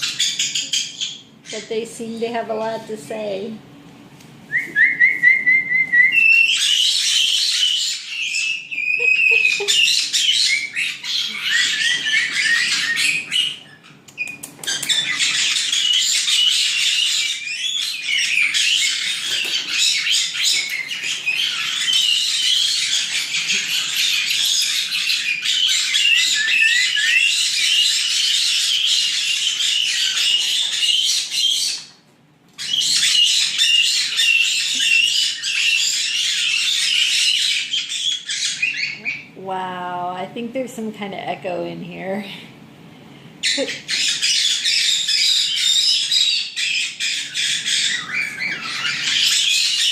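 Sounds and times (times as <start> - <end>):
parrots chattering and squawking: 0.0 - 1.8, 6.2 - 39.4, 43.4 - 49.9.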